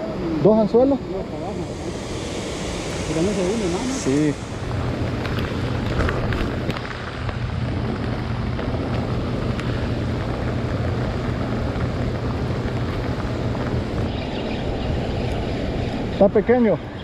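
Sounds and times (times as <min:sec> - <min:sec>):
rain: 0:00.0 - 0:17.0
low motor-like hum: 0:00.2 - 0:14.4
wind buffeting microphone: 0:00.2 - 0:17.0.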